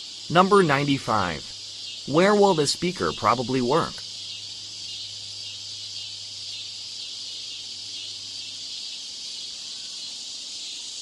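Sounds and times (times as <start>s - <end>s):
high-pitched hiss: 0.0s - 11.0s
low electrical hum: 0.0s - 11.0s.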